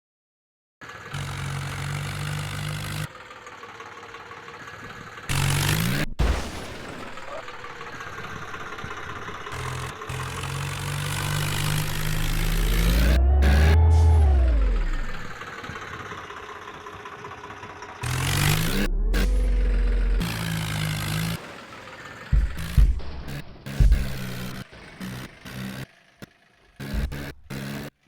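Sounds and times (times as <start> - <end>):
tractor engine running: 0.8 - 28.0.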